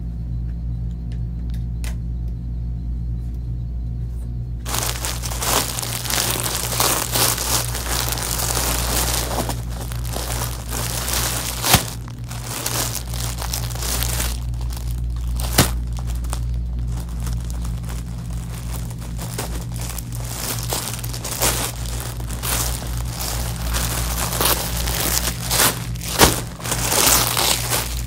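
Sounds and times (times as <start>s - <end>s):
plastic bags crinkling: 4.6s - 28.0s.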